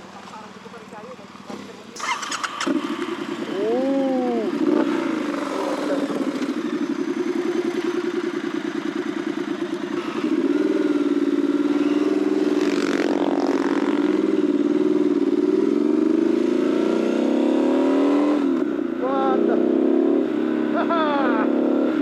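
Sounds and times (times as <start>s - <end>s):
motorcycle engine accelerating: 1.9s - 22.0s.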